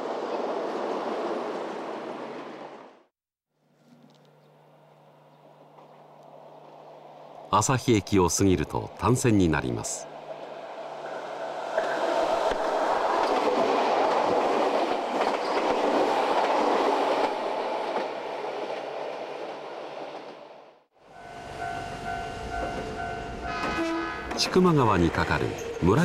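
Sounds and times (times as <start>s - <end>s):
train wheel-on-rail noise: 0.0s - 3.0s, 5.8s - 26.0s.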